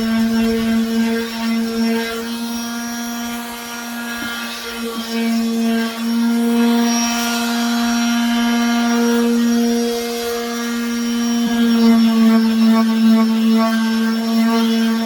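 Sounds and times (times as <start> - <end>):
electric sander running: 0.0 - 15.0.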